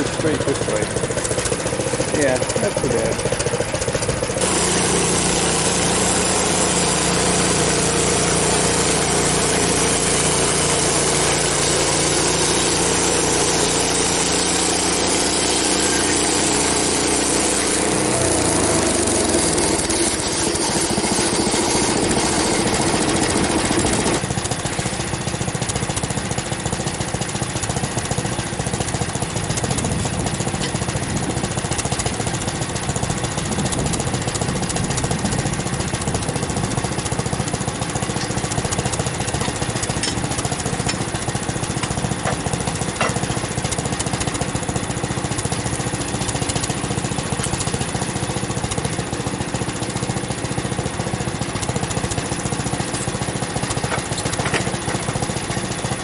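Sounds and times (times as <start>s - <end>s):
bandsaw blade cutting log: 0.0s - 56.0s
gas engine running: 0.0s - 56.0s.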